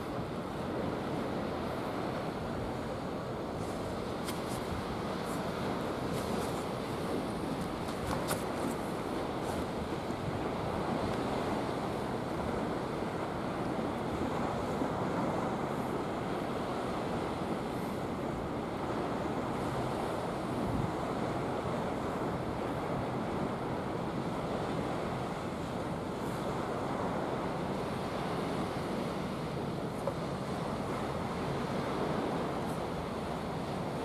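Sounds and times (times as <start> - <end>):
sea surf on breakwater: 0.0 - 34.0
wind noise on microphone: 0.0 - 34.0.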